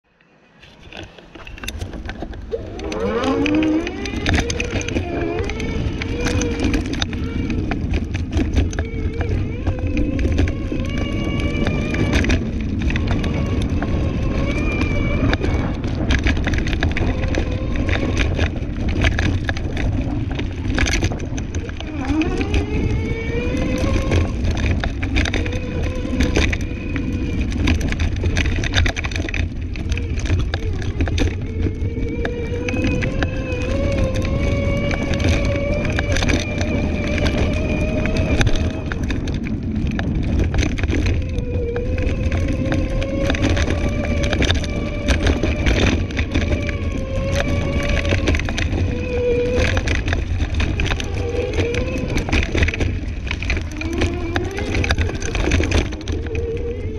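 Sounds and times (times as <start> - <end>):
low rumble: 0.0 - 56.9
electric scooter motor whining: 0.1 - 56.9
scooter frame clattering on bumps: 0.6 - 56.9.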